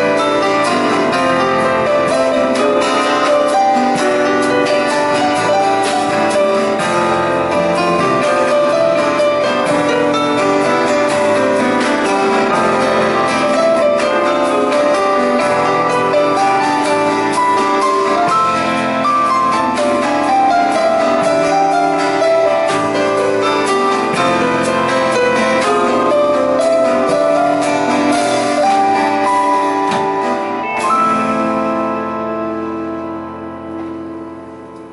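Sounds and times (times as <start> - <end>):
drum kit with cymbals: 0.0 - 32.8
acoustic guitar: 0.0 - 34.9
electric bass: 0.0 - 34.9
keyboard melody: 0.0 - 34.9.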